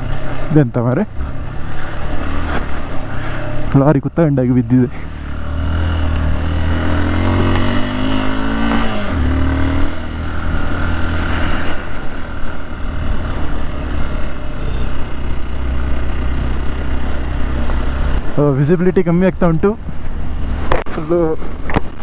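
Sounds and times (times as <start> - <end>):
motorcycle engine running: 0.0 - 18.6.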